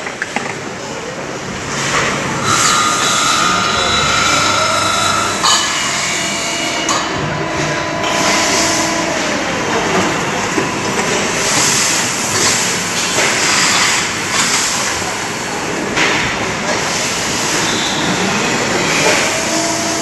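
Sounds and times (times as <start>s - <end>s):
machine hissing machining noise: 1.4s - 15.9s, 16.6s - 20.0s.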